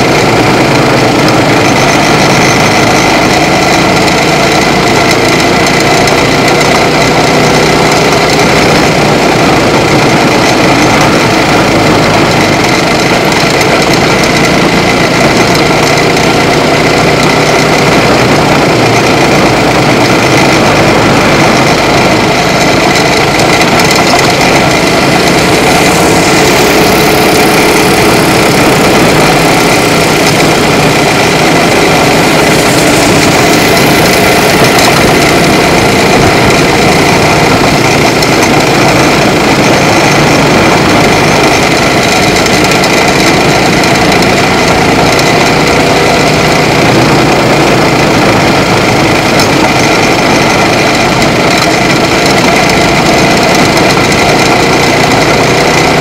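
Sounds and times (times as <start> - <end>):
racing kart engine running: 0.0 - 56.0.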